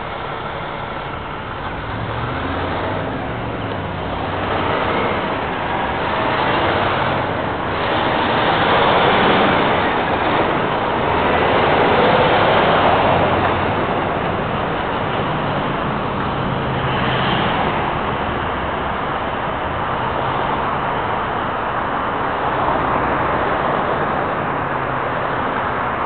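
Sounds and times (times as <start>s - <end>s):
cars going by on busy street: 0.0s - 26.0s.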